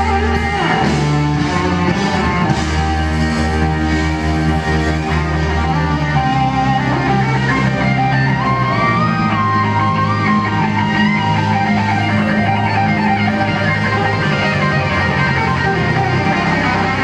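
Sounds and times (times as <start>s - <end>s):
band backing: 0.0s - 17.0s
electric guitar solo: 0.0s - 17.0s.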